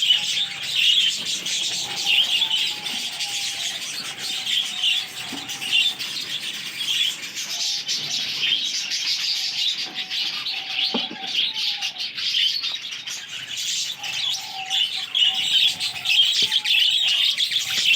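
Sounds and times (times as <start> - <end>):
budgerigars chattering and chirping: 0.0 - 17.9.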